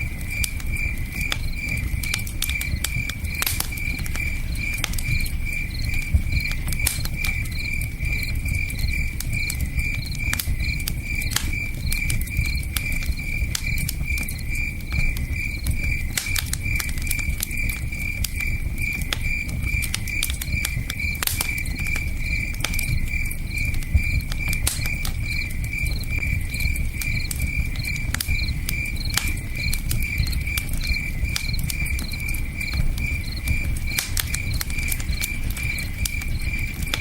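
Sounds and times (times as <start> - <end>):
campfire crackling: 0.0 - 37.0
cricket chirping: 0.0 - 37.0.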